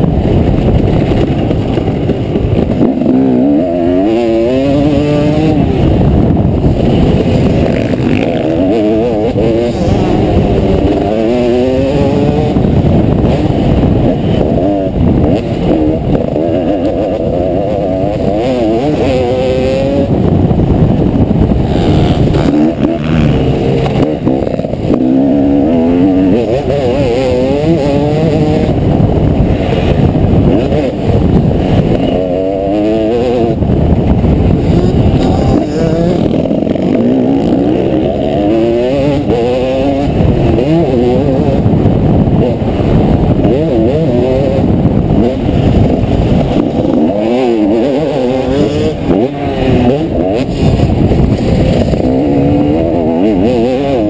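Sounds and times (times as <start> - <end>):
muffled motocross engine revving: 0.0 - 54.0.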